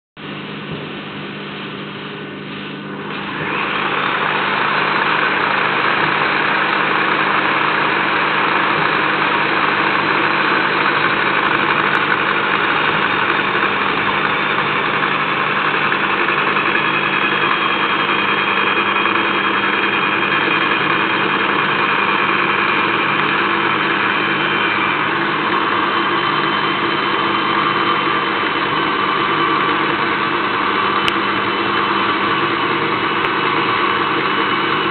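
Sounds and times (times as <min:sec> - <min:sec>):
boring machine hum and hiss: 0:00.2 - 0:34.9.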